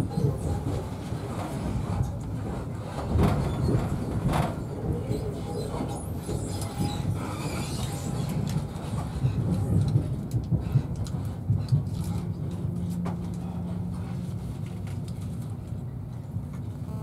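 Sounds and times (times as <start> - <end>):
wheels rumbling on rail: 0.0 - 16.9.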